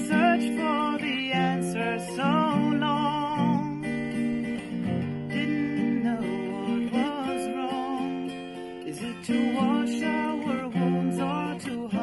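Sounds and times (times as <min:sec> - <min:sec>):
woman singing: 0:00.0 - 0:04.2, 0:05.0 - 0:12.0
acoustic guitar: 0:00.0 - 0:12.0.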